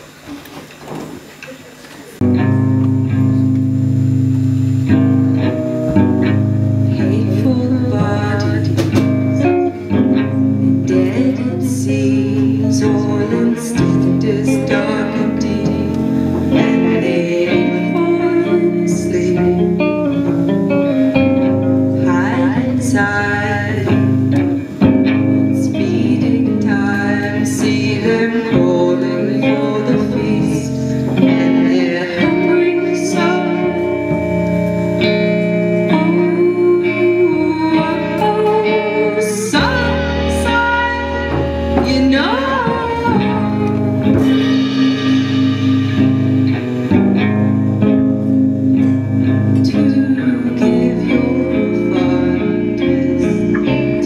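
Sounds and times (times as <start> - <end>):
live band playing: 0.0 - 54.0
woman singing: 6.2 - 46.6, 49.2 - 54.0.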